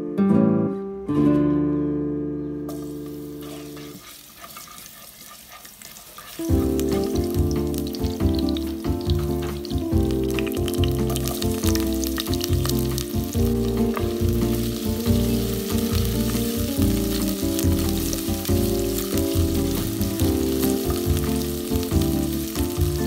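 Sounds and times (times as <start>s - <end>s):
food sizzling in hot oil: 2.7s - 23.0s
spatula stirring in pot: 2.8s - 23.0s.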